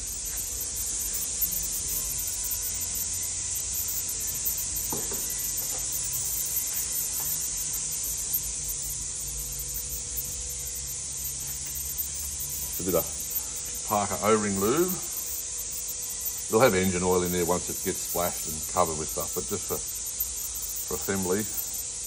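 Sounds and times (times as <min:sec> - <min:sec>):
low hum: 0:00.0 - 0:22.0
steady high hiss: 0:00.0 - 0:22.0.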